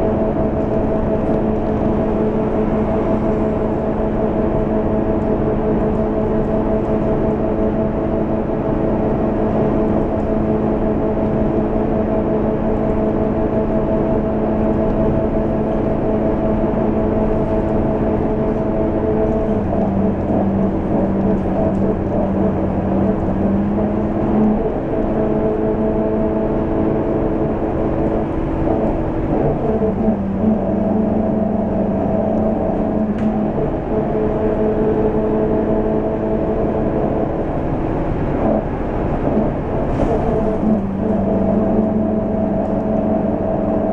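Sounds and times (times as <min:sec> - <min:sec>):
bus diesel engine droning: 0:00.0 - 0:43.9
road and tyre noise: 0:00.0 - 0:43.9.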